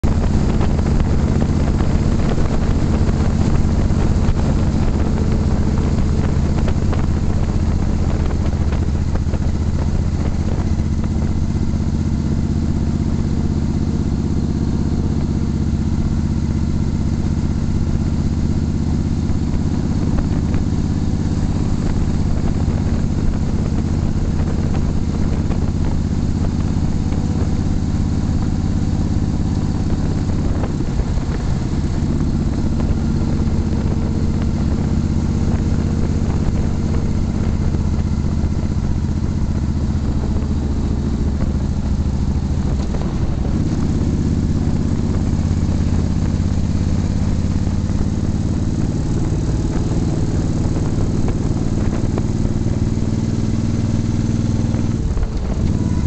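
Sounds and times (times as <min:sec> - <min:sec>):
motorcycle engine running: 0:00.0 - 0:56.0
road hiss: 0:00.0 - 0:56.0
wind: 0:00.0 - 0:56.0.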